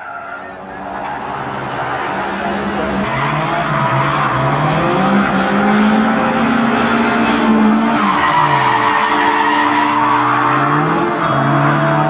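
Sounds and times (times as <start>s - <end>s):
race car engine: 0.0s - 12.0s
tyre screech: 0.0s - 12.0s.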